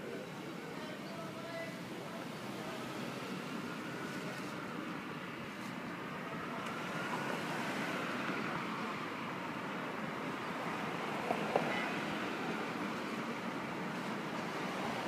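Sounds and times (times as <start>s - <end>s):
city noise hum: 0.0s - 15.0s.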